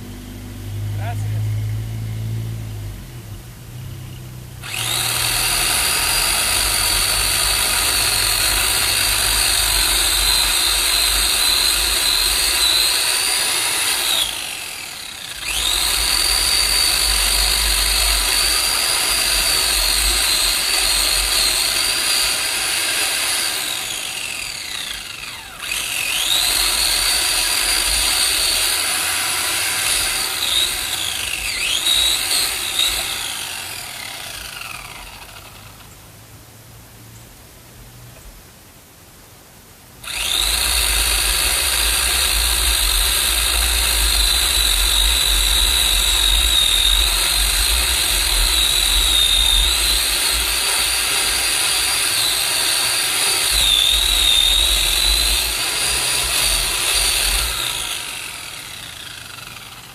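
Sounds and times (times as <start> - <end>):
electric chainsaw cutting wood: 3.8 - 35.9, 40.0 - 59.9.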